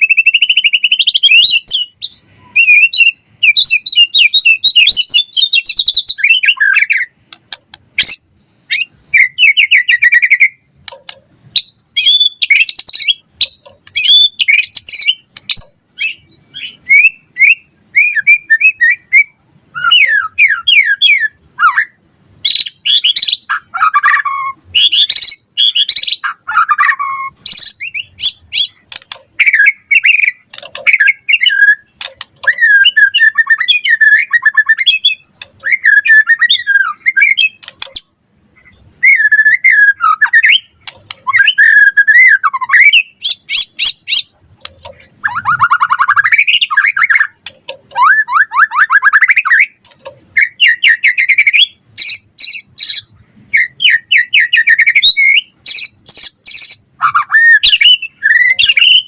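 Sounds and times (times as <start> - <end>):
songbird singing whistles and trills: 0.0 - 7.2, 7.9 - 44.4, 45.0 - 59.0.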